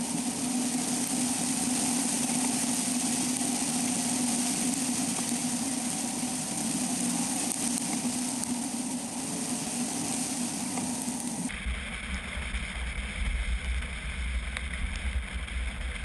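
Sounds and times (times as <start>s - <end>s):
vehicle engine drone: 0.0s - 16.0s
wind and road hiss: 0.0s - 16.0s.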